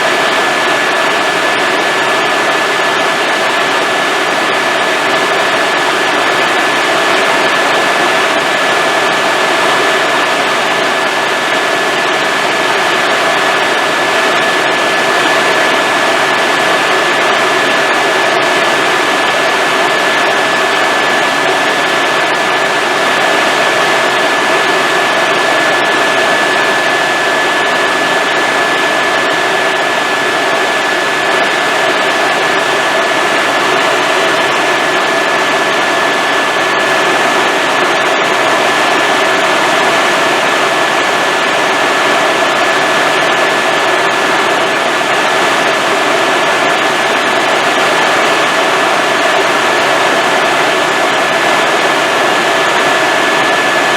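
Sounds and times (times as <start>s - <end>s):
helicopter rotor and turbine noise: 0.0s - 53.9s.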